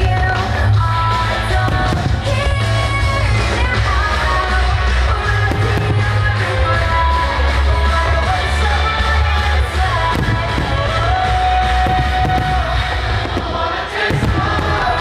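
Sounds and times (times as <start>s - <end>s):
pop song with singing: 0.0s - 15.0s
firework bangs: 0.1s - 15.0s.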